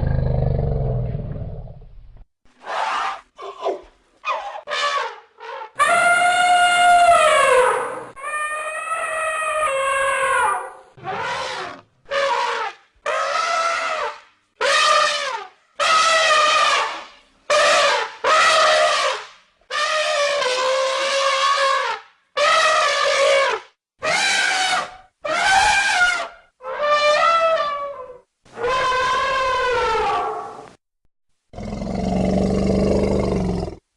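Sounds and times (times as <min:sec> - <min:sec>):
elephant trumpeting: 0:02.7 - 0:30.6.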